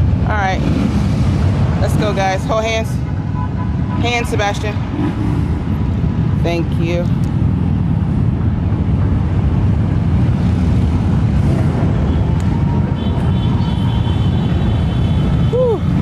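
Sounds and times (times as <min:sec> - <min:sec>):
motorcycle engines rumbling: 0:00.0 - 0:16.0.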